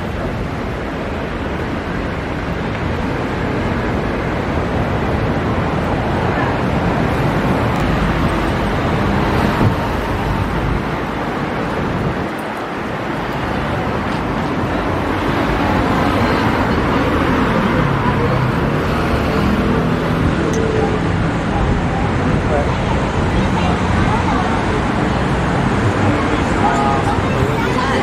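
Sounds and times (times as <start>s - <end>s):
passers-by talking: 0.0s - 28.0s
road traffic: 0.0s - 28.0s.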